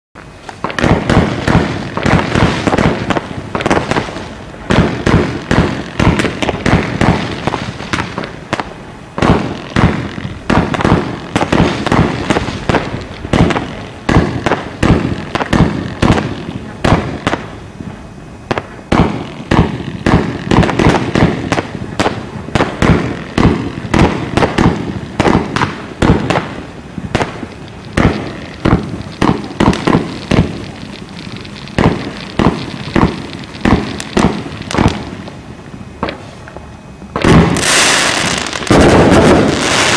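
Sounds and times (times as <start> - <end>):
firework bangs and crackling: 0.2 - 39.9.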